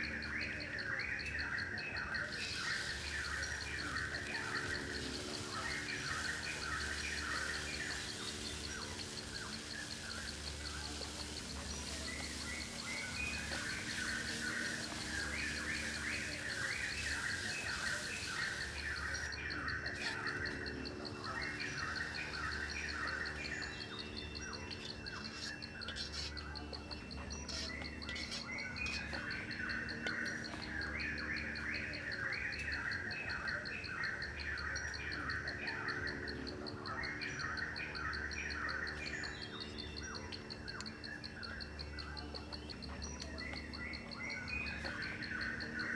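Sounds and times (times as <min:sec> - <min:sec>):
birds chirping: 0:00.0 - 0:45.9
high insect trill: 0:00.0 - 0:45.9.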